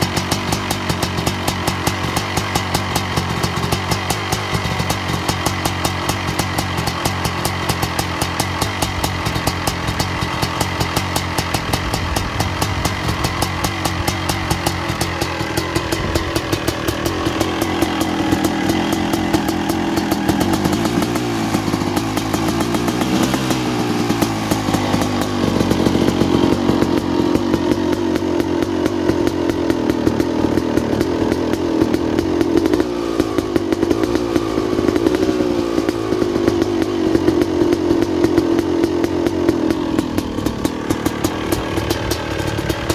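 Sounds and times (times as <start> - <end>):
two-stroke motocross engine revving: 0.0 - 42.9.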